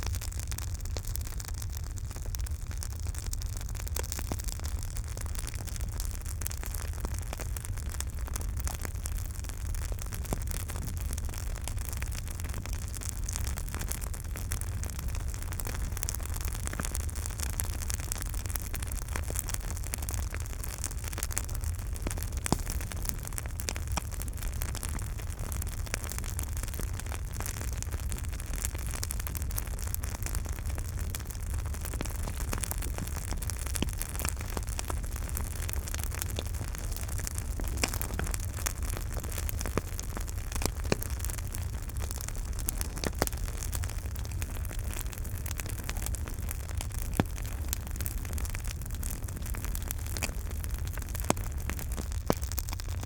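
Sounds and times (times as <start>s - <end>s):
burning wood crackling: 0.0s - 53.0s
flames rumbling and hissing: 0.0s - 53.0s.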